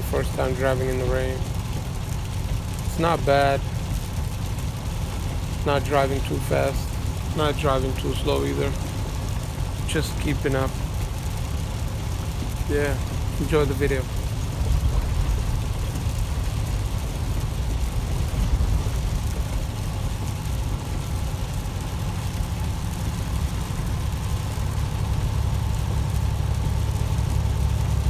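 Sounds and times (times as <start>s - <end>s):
truck engine rumble: 0.0s - 28.0s
tyres hissing on wet road: 0.0s - 28.0s.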